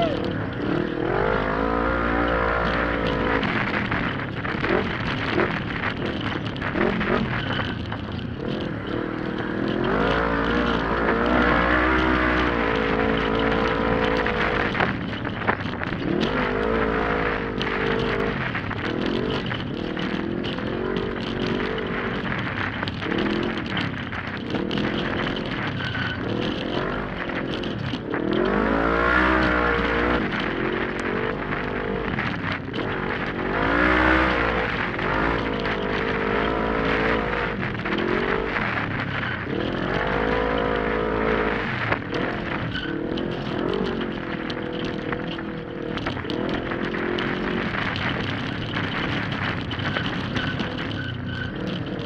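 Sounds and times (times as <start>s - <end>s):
knocks from rough trail: 0.0s - 52.0s
utv engine revving: 0.0s - 52.0s.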